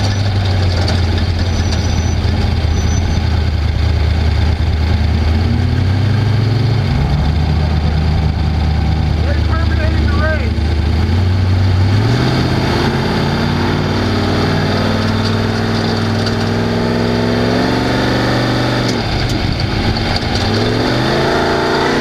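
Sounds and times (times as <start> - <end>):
race vehicle engine running hard: 0.0 - 22.0.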